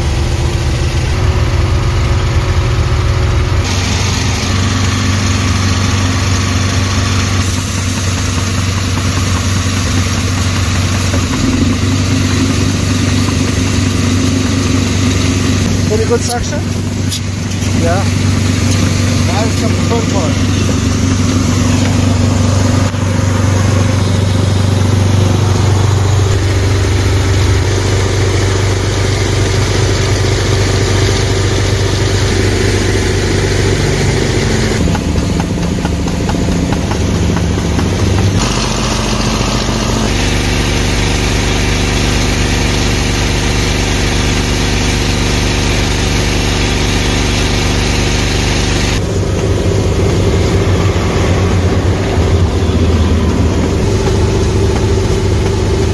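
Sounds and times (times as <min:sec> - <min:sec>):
engine-driven pump running: 0:00.0 - 0:55.9.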